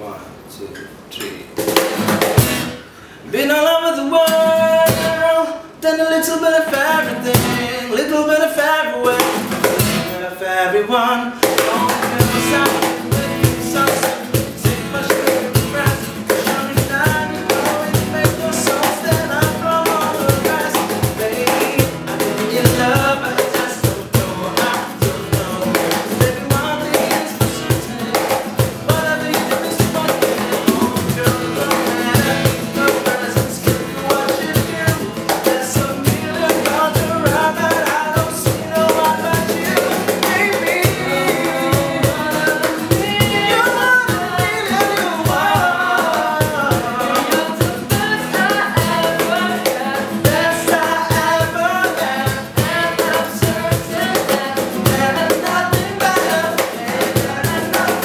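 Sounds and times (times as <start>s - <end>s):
acoustic guitar strumming: 1.0s - 58.0s
box drum slapped by hand: 1.6s - 2.8s, 9.1s - 10.1s, 11.4s - 58.0s
man singing: 3.2s - 58.0s.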